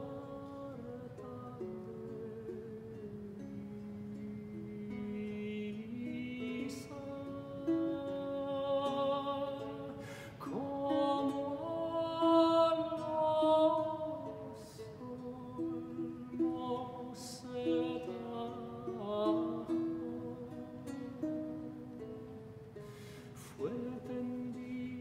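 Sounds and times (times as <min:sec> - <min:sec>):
plucked guitar: 0:00.0 - 0:25.0
tenor voice singing wordless melody: 0:00.0 - 0:25.0.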